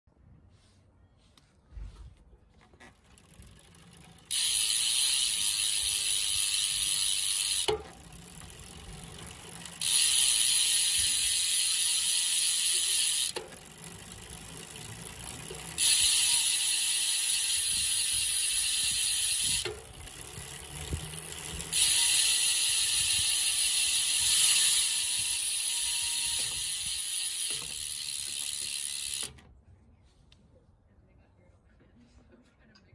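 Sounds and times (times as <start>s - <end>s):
freehub ratcheting buzz: 2.8s - 29.5s.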